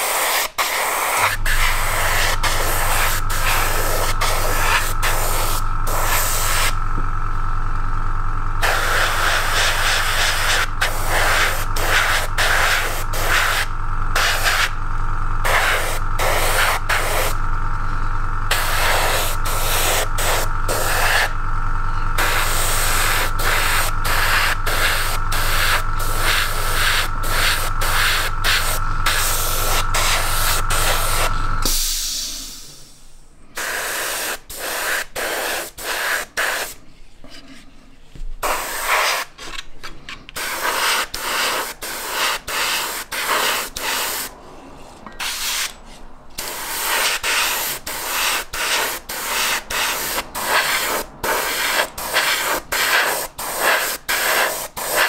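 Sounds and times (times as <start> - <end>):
airbrush spraying bursts: 0.0 - 6.8, 8.6 - 14.8, 15.4 - 17.4, 18.5 - 21.4, 22.2 - 33.0, 33.6 - 36.8, 38.4 - 39.4, 40.4 - 44.3, 45.2 - 45.8, 46.4 - 55.0
air compressor humming: 0.0 - 55.0.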